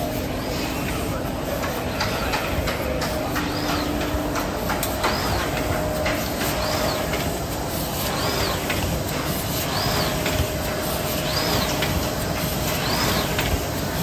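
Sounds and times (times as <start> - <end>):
machine clattering: 0.0 - 14.0
machine whoosh: 2.4 - 14.0.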